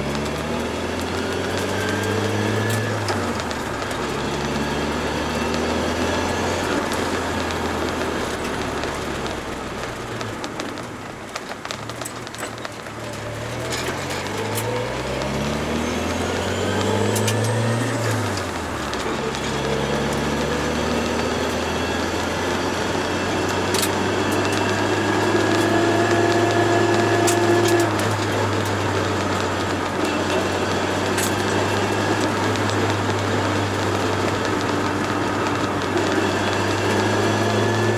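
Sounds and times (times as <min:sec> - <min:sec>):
car engine accelerating: 0:00.0 - 0:37.9.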